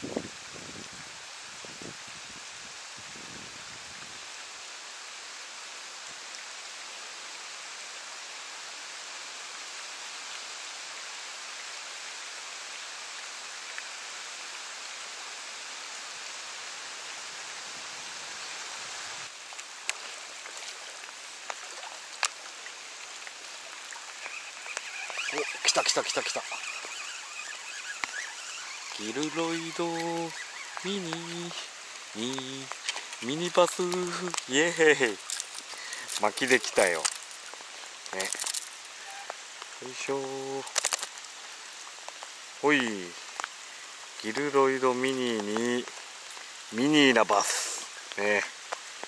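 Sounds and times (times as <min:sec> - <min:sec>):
rain hissing onto water: 0:00.0 - 0:49.0.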